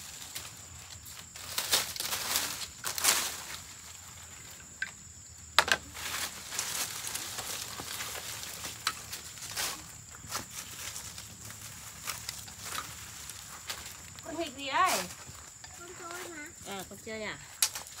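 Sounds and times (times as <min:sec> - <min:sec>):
dry leaves rustling and scraping: 0:00.0 - 0:04.8, 0:05.6 - 0:18.0
high insect drone: 0:00.0 - 0:18.0.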